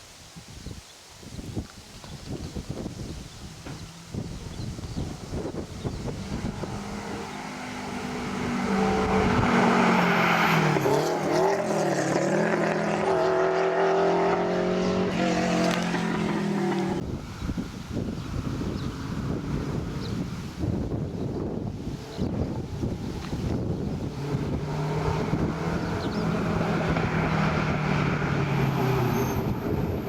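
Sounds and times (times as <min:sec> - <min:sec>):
turbocharged car engine under load: 0:02.4 - 0:30.0.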